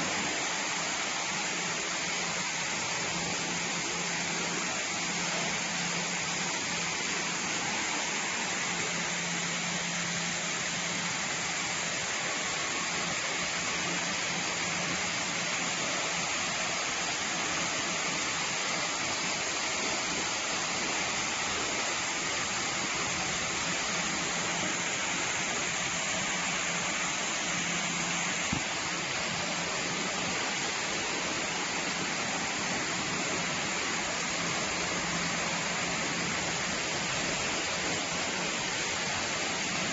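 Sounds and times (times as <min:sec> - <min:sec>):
production line machinery hissing: 0:00.0 - 0:39.9.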